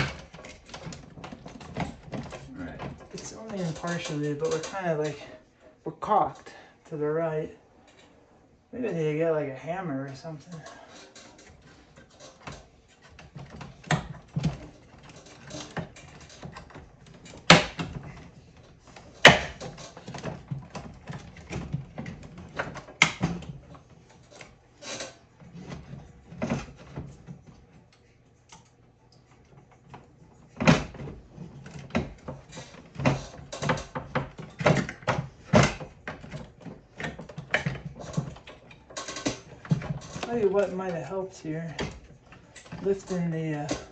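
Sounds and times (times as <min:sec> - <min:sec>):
plastic and metal parts knocking: 0:00.0 - 0:05.3, 0:10.5 - 0:27.7, 0:29.4 - 0:43.9.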